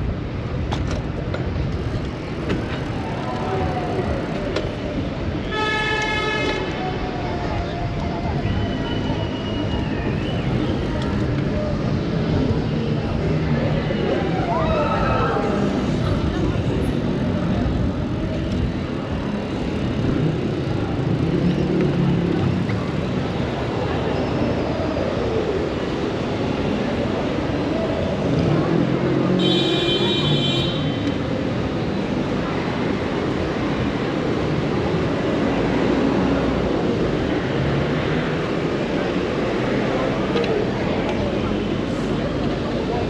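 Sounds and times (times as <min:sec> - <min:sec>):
low rumble of traffic: 0:00.0 - 0:43.0
passing vehicle engines and tyres: 0:00.0 - 0:43.0.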